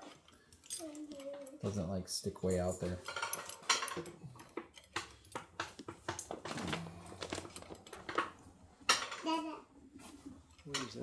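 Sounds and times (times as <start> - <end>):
metal tools and bolts clinking: 0.0 - 8.3, 8.9 - 9.3, 10.5 - 11.0.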